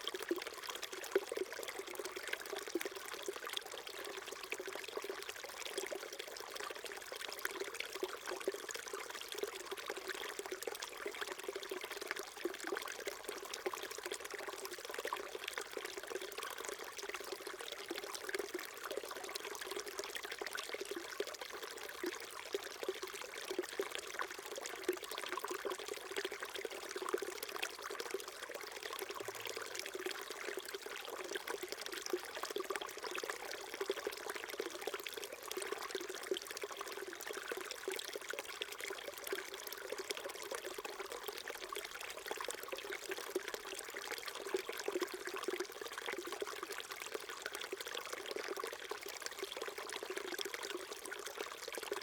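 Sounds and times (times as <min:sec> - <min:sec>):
brook trickling and babbling: 0:00.0 - 0:52.0.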